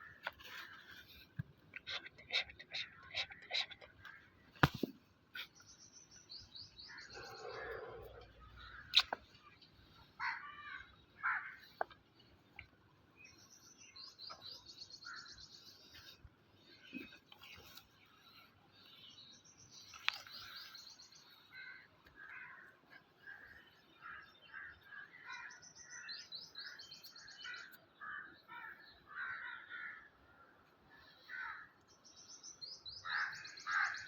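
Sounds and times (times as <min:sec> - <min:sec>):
small birds chirping: 0:00.0 - 0:30.0, 0:30.8 - 0:34.0.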